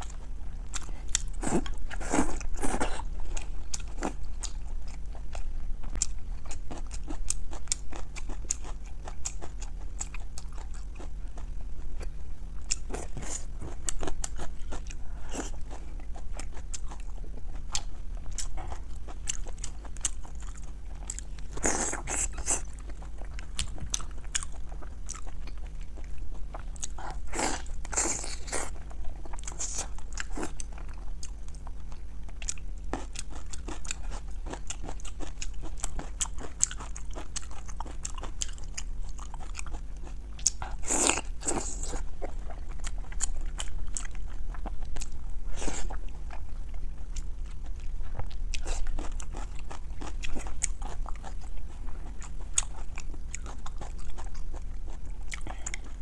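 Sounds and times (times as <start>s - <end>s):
biting and chewing: 0.0s - 56.0s.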